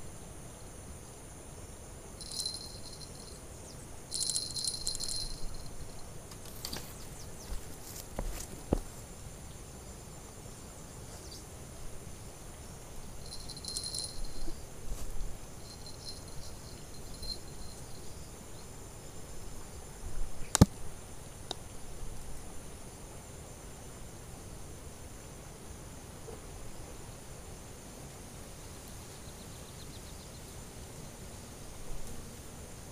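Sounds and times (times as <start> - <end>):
insects buzzing: 0.0 - 32.9.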